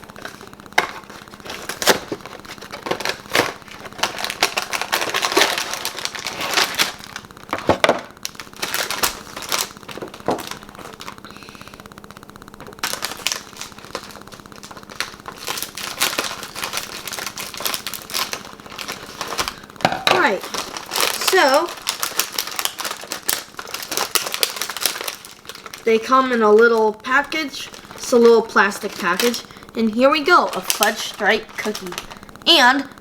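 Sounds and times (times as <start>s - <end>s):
plastic packaging crinkling: 0.0s - 33.0s.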